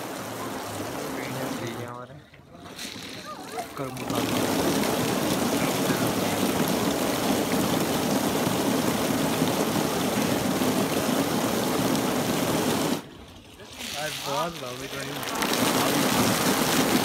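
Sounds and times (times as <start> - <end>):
fountain water spraying and splashing: 0.0 - 2.1, 2.7 - 17.0.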